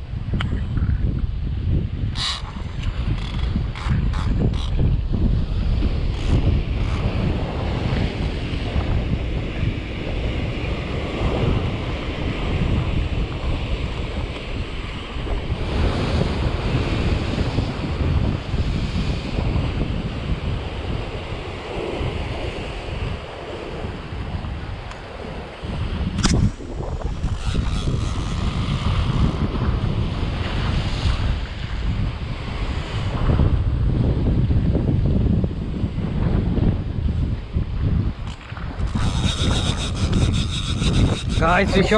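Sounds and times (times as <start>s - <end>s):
wind rumbling on microphone: 0.0s - 41.9s.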